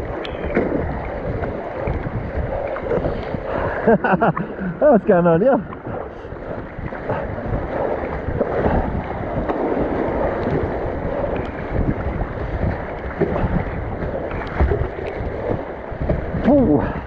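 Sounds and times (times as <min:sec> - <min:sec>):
river water rushing and splashing: 0:00.0 - 0:17.0
wind buffeting microphone: 0:00.0 - 0:17.0.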